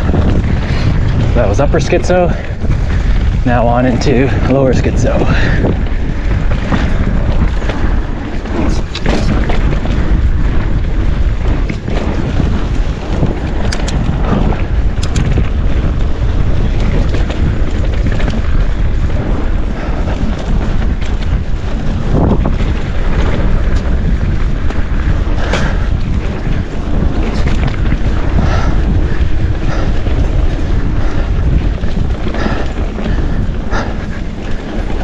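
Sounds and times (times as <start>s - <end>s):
bike clacking over bumps: 0.0s - 35.0s
bike riding rumble: 0.0s - 35.0s
wind rushing over microphone: 0.0s - 35.0s.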